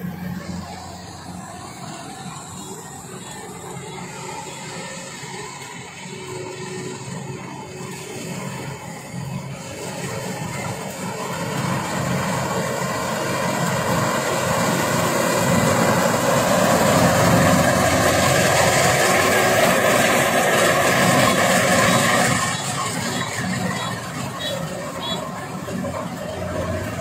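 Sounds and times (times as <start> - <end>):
combine harvester engine drone: 0.0 - 27.0.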